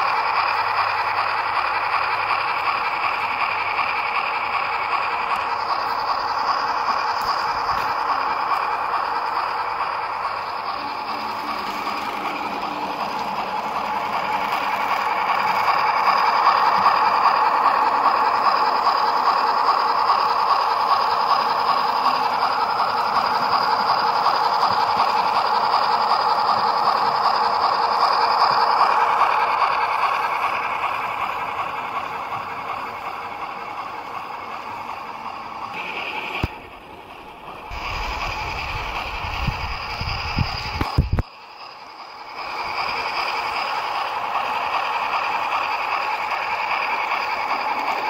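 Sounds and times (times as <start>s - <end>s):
model steam locomotive sounds: 0.0s - 48.0s.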